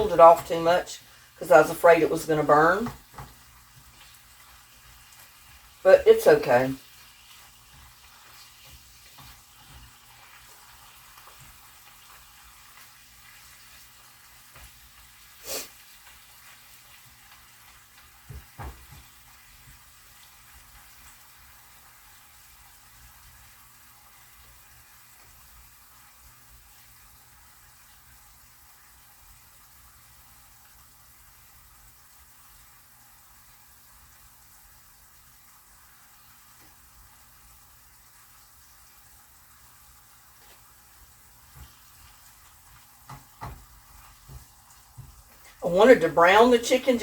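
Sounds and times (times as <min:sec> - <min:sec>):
chicken sizzling in a pan: 0:00.0 - 0:47.0.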